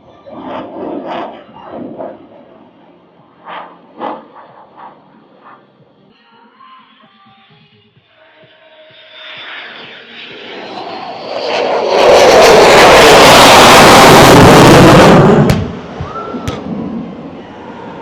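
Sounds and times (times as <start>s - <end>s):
aircraft passing low overhead: 0.0s - 6.1s, 8.2s - 18.0s.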